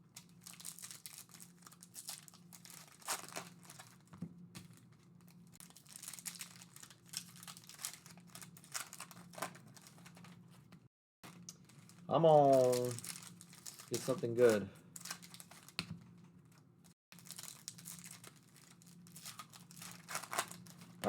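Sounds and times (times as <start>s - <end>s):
foil wrappers crinkling and tearing: 0.1s - 10.6s, 11.2s - 21.0s.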